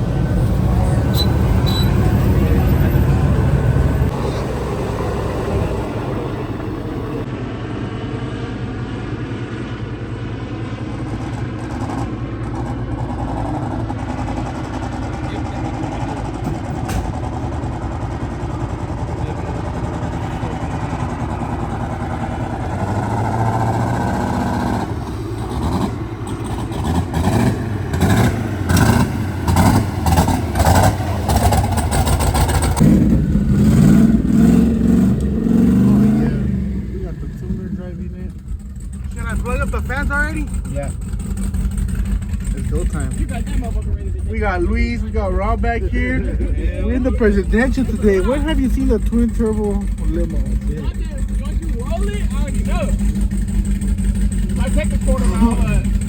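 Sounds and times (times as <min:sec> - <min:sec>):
engine running and revving: 0:00.0 - 0:56.0.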